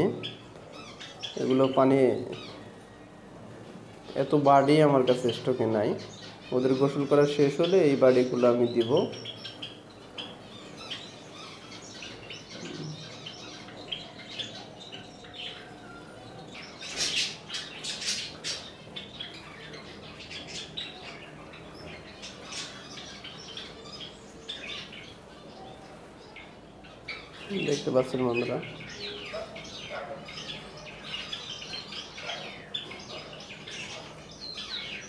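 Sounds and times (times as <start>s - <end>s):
caged sparrows chirping: 0.0s - 35.0s.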